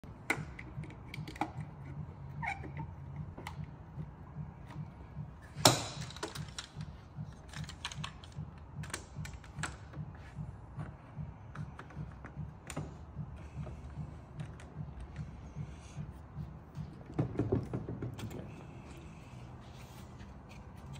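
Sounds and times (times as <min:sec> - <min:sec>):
pulsing low hum: 0:00.0 - 0:19.4.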